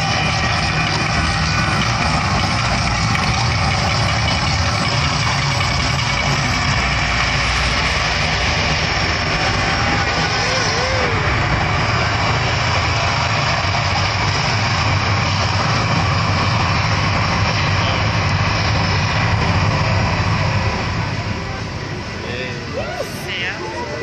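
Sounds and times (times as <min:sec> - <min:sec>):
volcano attraction roaring: 0:00.0 - 0:24.0.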